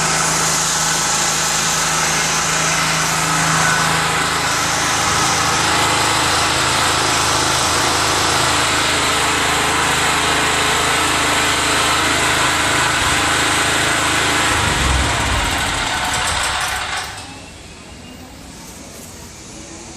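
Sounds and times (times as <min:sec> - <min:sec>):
portable generator engine running: 0:00.0 - 0:17.6.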